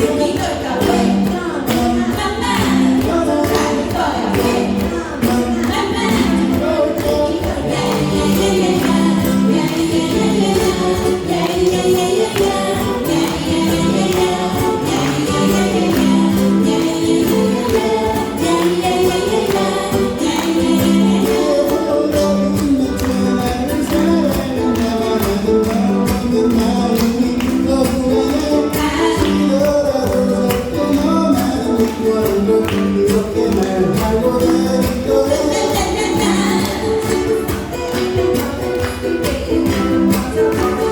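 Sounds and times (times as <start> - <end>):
group singing: 0.0 - 40.9
ukulele ensemble strumming: 0.0 - 40.9.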